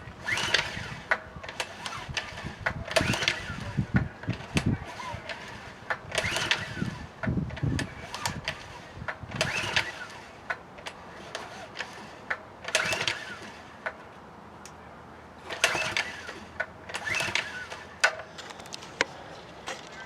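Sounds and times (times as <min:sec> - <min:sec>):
engine recoil starter cranking: 0:00.1 - 0:14.0, 0:15.4 - 0:18.8.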